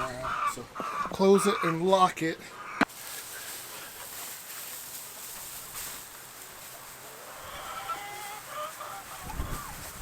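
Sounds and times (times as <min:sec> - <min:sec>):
chickens calling: 0:00.0 - 0:10.0
faint steady hiss: 0:00.0 - 0:10.0.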